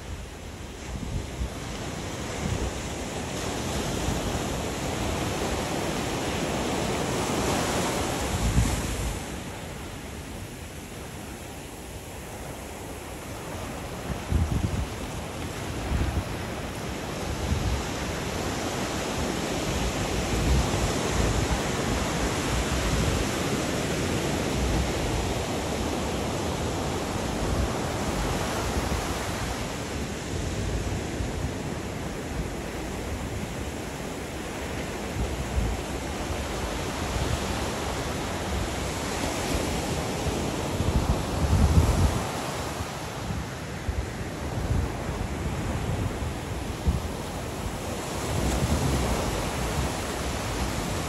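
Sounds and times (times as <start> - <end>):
surf breaking on a beach: 0.0 - 51.0
wind buffeting the microphone: 0.0 - 51.0.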